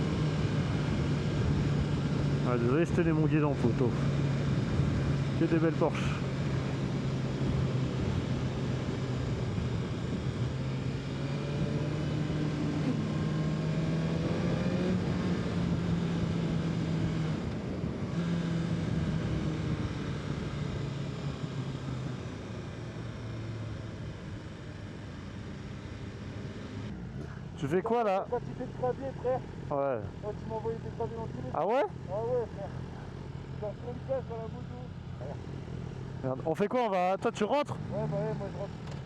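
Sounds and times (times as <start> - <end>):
motorcycle engine running: 0.0 - 36.5, 37.8 - 39.0
wind and road noise: 0.0 - 39.0.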